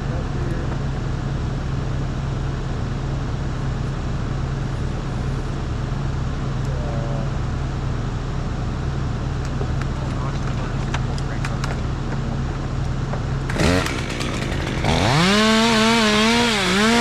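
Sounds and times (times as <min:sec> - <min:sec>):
large engine idling: 0:00.0 - 0:17.0.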